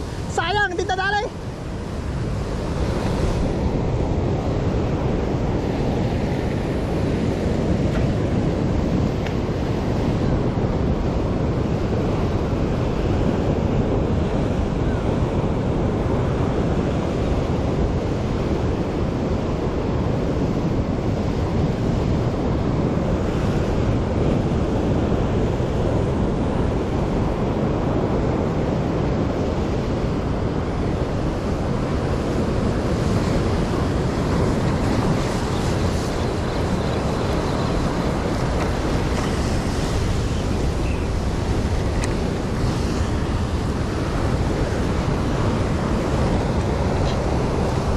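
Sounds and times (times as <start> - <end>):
sea surf breaking on rocks: 0.0 - 47.9
wind rumbling on microphone: 0.0 - 47.9.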